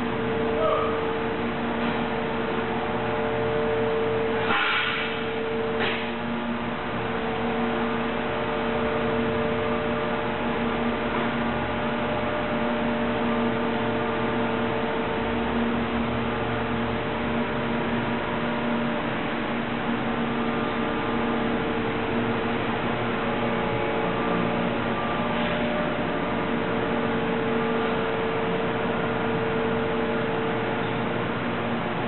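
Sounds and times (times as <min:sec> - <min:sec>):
industrial machine humming: 0:00.0 - 0:32.0.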